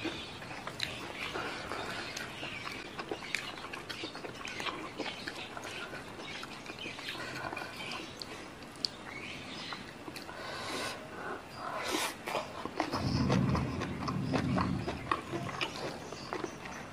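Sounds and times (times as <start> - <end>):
chewing crunches and wet smacks: 0.0 - 10.4, 11.2 - 16.9.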